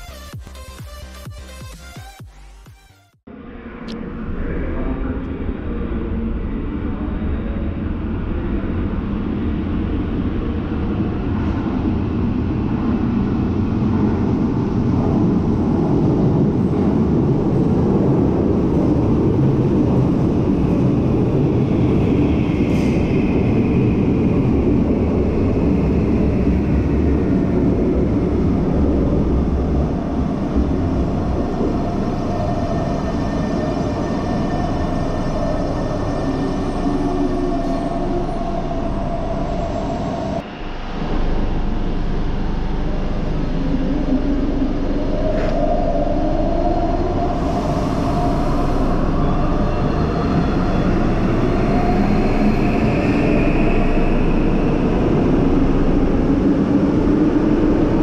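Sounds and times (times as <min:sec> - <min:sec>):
high train whine: 0:03.3 - 0:58.0.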